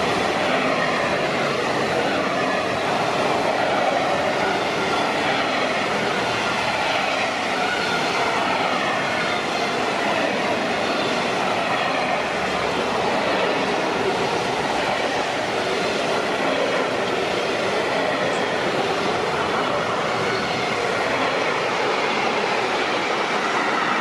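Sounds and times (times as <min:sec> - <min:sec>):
train wheels on rails: 0:00.0 - 0:24.0.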